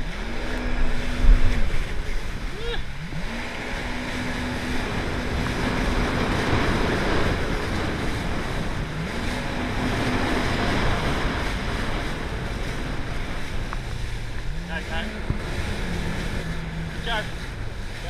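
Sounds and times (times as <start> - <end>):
jet ski engine revving: 0.0 - 18.0
wind on microphone: 0.0 - 18.0.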